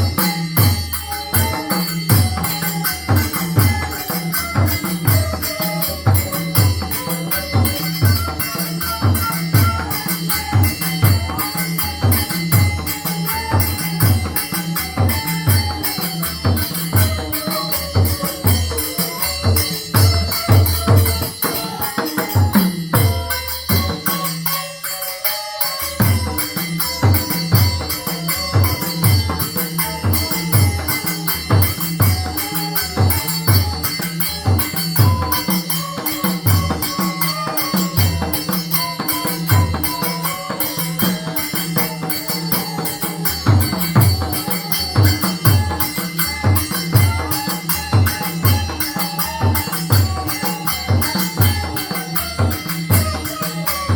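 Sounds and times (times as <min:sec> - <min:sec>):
bamboo flute melody: 0:00.0 - 0:53.9
high jingling percussion: 0:00.0 - 0:53.9.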